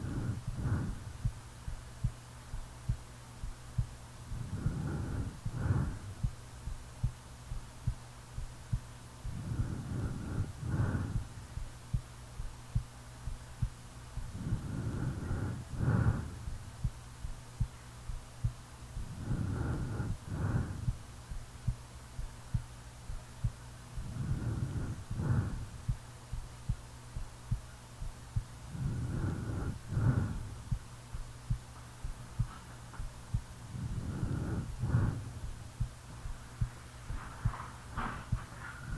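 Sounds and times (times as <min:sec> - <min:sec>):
heartbeat thudding: 0:00.0 - 0:38.9
low steady hum: 0:00.0 - 0:38.9.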